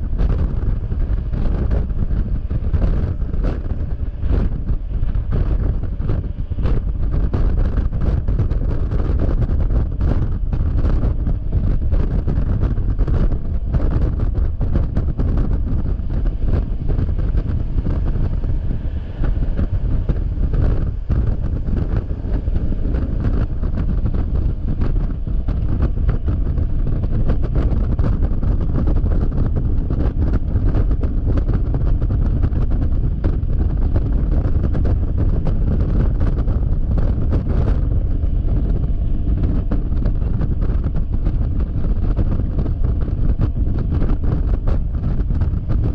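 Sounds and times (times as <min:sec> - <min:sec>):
scooter running noise: 0:00.0 - 0:45.9
wind buffeting microphone: 0:00.0 - 0:45.9.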